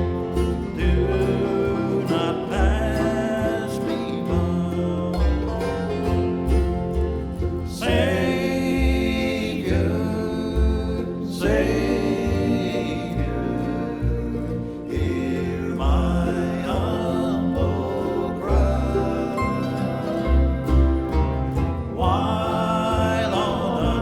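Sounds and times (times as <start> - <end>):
person singing: 0.0 - 6.6, 7.7 - 24.0
bluegrass band playing a hymn: 0.0 - 24.0
plucked bass walking: 0.0 - 24.0.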